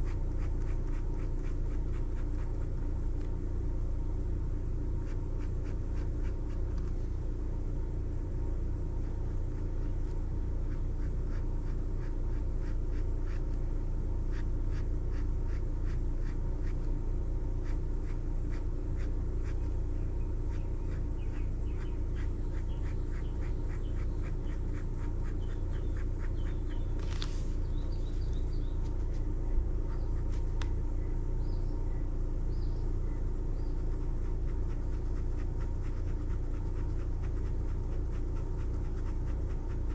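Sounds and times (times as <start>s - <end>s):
low background rumble: 0.0s - 39.9s.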